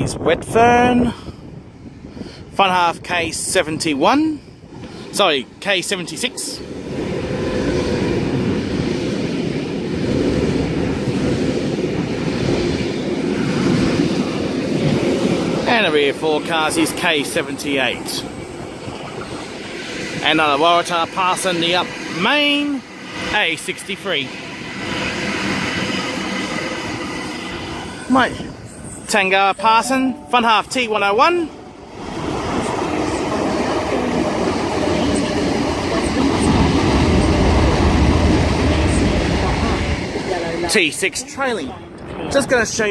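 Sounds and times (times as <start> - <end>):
train wheels rumbling on rails: 0.0 - 29.6, 31.8 - 42.9.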